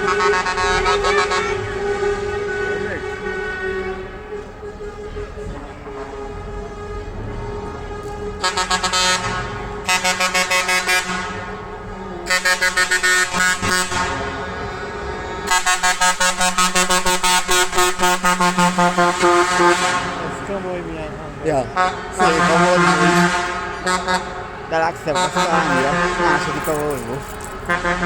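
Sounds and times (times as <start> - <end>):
pulsing truck air horns: 0.0 - 28.0.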